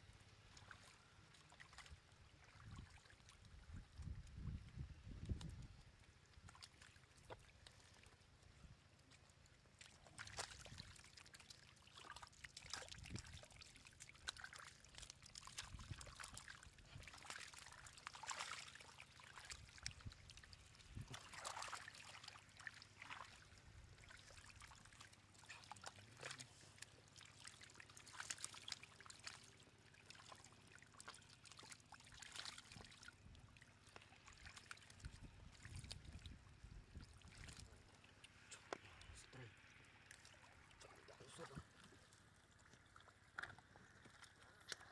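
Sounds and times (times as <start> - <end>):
muddy water splashing: 0.3 - 44.9
small wet clicks: 0.5 - 44.9.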